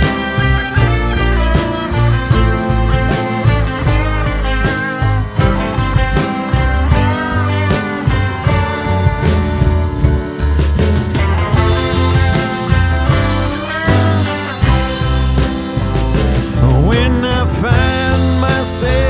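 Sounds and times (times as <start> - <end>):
bass and drums: 0.0 - 19.0
lead guitar bending notes: 0.0 - 19.0.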